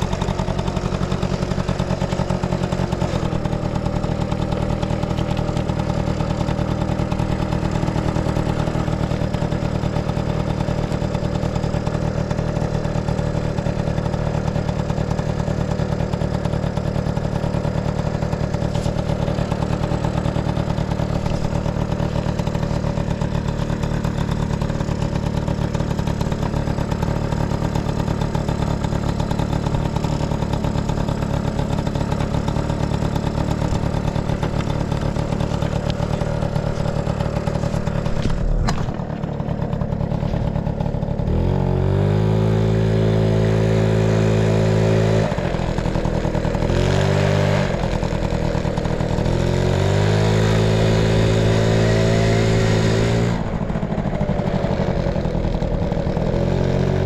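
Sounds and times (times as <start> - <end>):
two-stroke engine idling: 0.0 - 57.0.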